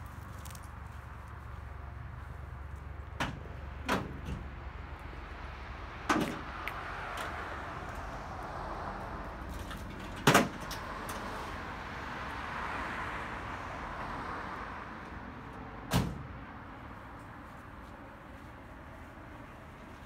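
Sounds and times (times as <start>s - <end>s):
car passing: 0.0s - 20.0s
street traffic noise: 0.0s - 20.0s.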